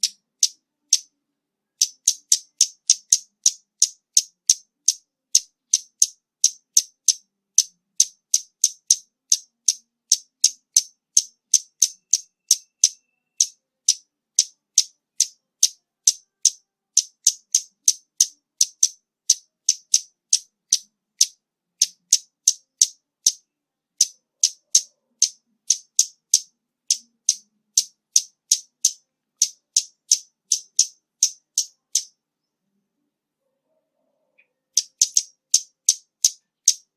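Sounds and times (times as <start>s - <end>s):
bird high-pitched ticking calls: 0.0s - 32.8s, 34.3s - 36.9s.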